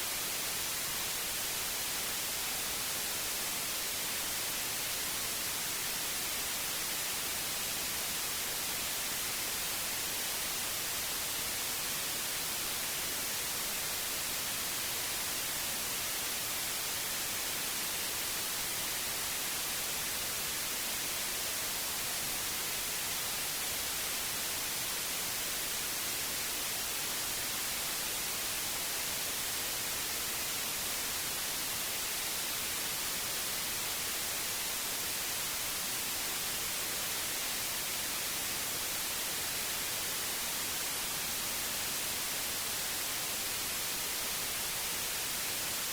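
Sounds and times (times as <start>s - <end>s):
white noise hiss: 0.0s - 45.9s.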